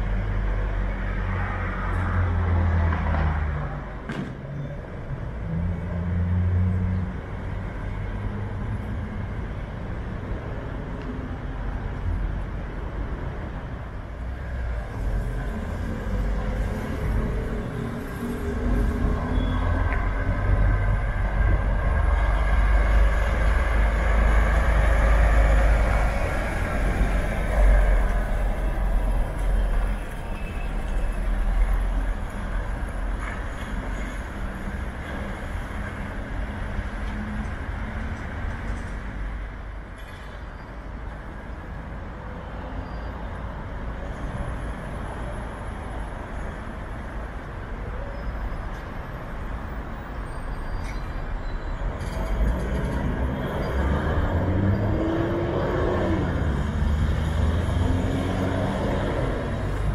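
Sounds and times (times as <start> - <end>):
traffic noise: 0.0 - 59.9
bus engine pulling away: 4.7 - 39.8, 44.6 - 59.9.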